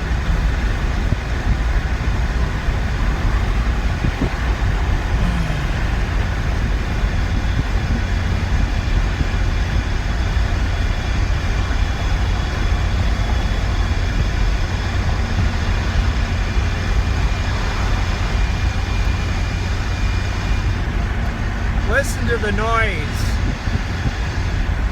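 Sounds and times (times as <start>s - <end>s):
wind buffeting in vehicle cab: 0.0s - 22.0s, 23.3s - 24.9s
road noise: 0.0s - 24.9s.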